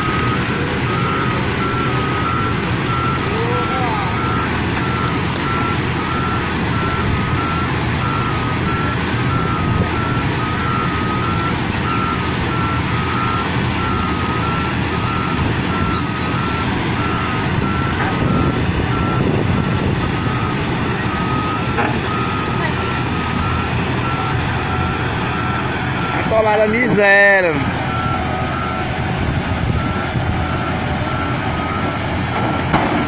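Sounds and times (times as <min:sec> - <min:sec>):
reversing alarm beeping: 0:00.0 - 0:33.0.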